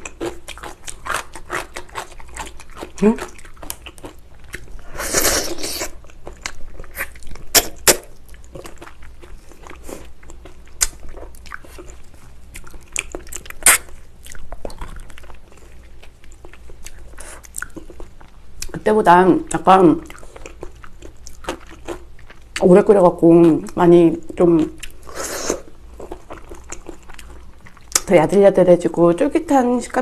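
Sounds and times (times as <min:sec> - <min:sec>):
wet chewing and lip smacking: 0:00.0 - 0:04.9, 0:05.5 - 0:18.8, 0:19.5 - 0:22.7, 0:24.5 - 0:28.1.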